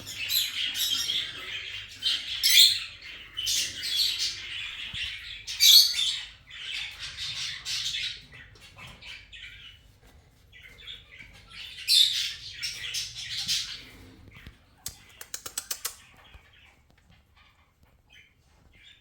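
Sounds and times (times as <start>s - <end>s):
parakeets calling: 0.0s - 9.8s, 10.5s - 16.8s.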